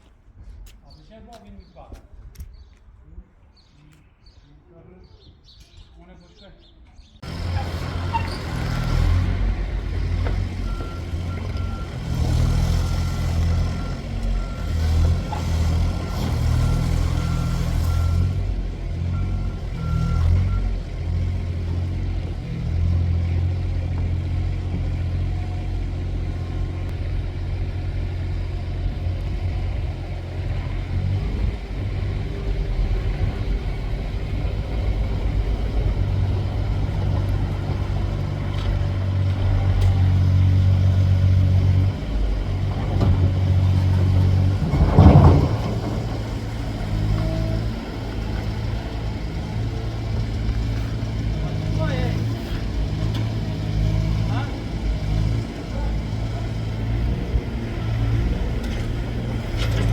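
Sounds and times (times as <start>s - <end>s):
heavy machine engine droning: 7.2s - 59.9s.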